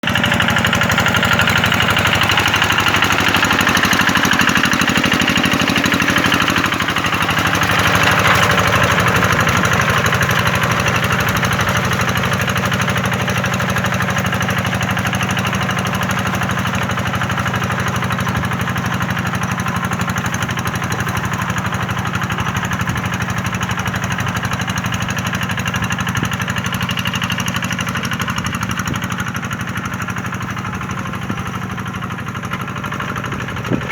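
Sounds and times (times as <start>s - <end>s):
tractor engine chugging: 0.0s - 33.9s.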